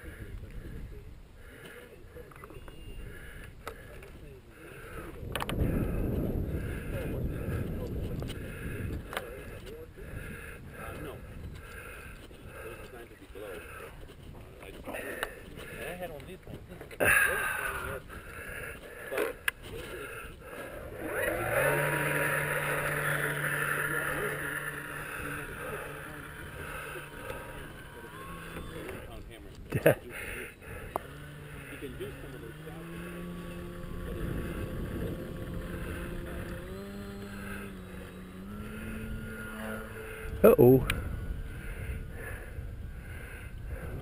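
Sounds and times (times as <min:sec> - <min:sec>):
model plane electric motor whine: 0:01.6 - 0:14.3, 0:17.3 - 0:44.0.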